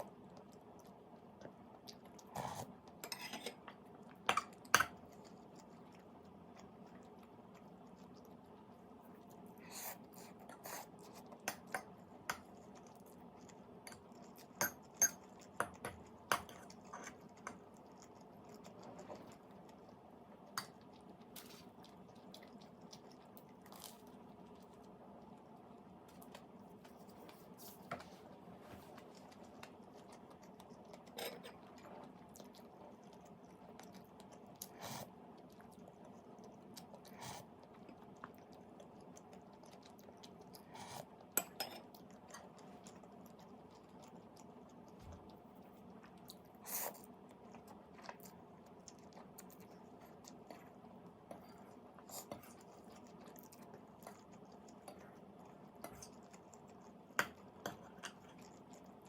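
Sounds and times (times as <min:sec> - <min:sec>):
low background hum: 0:00.0 - 0:59.0
person chewing: 0:04.1 - 0:27.9, 0:28.9 - 0:59.0.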